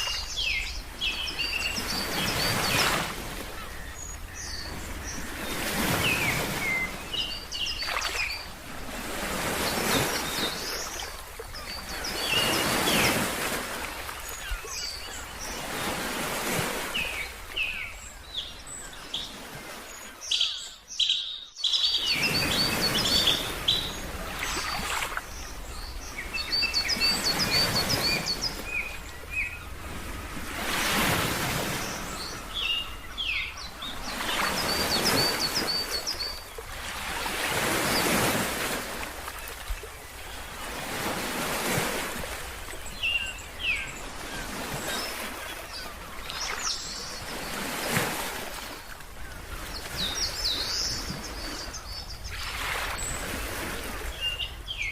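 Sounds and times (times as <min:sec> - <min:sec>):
birds chirping: 0:00.0 - 0:08.6, 0:09.3 - 0:54.9
ocean surf washing: 0:00.0 - 0:18.4, 0:21.8 - 0:54.8.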